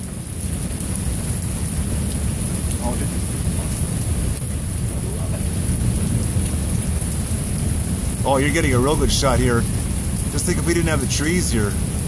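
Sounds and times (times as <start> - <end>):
heavy rain pouring: 0.0 - 12.0
low rumble of thunder: 0.0 - 12.0.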